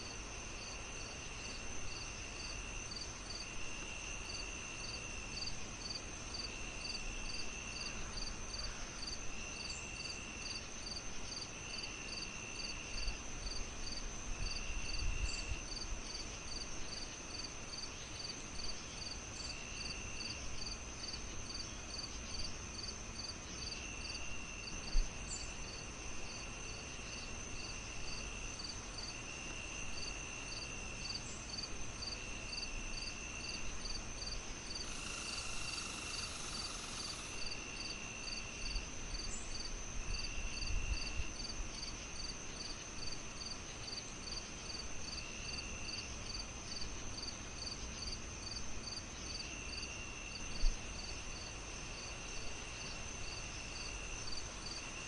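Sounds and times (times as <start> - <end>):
crickets chirping: 0.0 - 55.0
dense insect buzz: 0.0 - 55.0
high insect drone: 0.0 - 55.0
high insect trill: 0.0 - 55.0
low background noise: 0.0 - 55.0.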